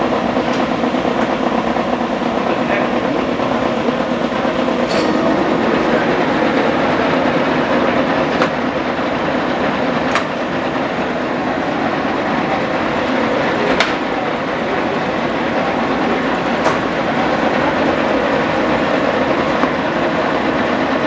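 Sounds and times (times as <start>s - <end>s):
lathe running: 0.0s - 21.0s.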